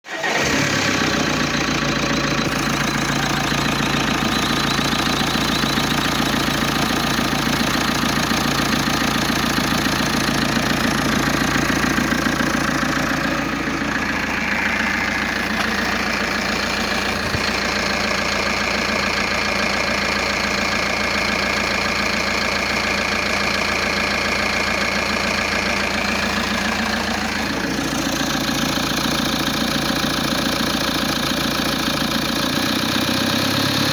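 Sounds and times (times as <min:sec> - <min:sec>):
car engine idling: 0:00.1 - 0:33.9
strange engine noise: 0:00.1 - 0:33.9.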